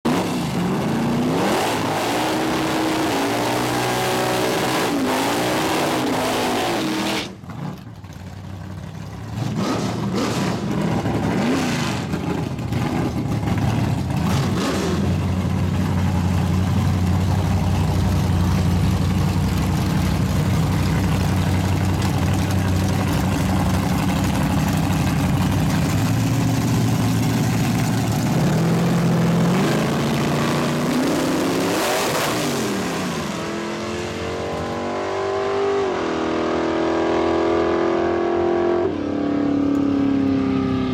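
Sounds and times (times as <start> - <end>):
car engine revving: 0.1 - 8.2, 9.2 - 40.9.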